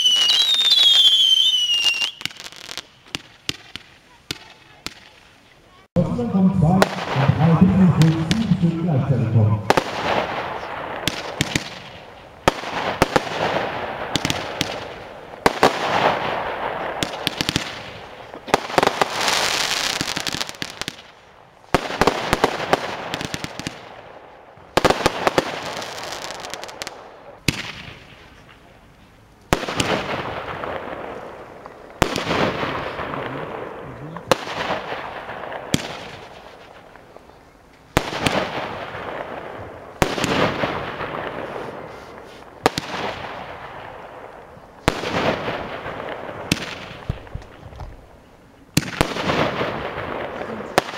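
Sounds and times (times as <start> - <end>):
fireworks bangs with crackling: 0.0 - 5.5, 6.6 - 50.9.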